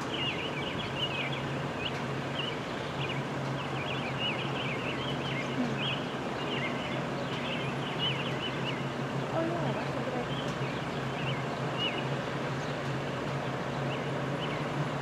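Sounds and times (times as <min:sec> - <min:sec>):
low engine hum: 0:00.0 - 0:15.0
small birds chirping: 0:00.0 - 0:15.0.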